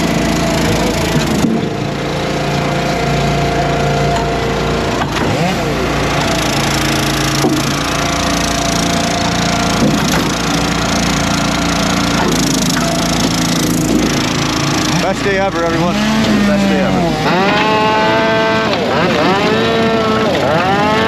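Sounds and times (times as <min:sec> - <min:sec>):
log splitter engines running: 0:00.0 - 0:21.0
wood cracking and splitting: 0:00.0 - 0:21.0.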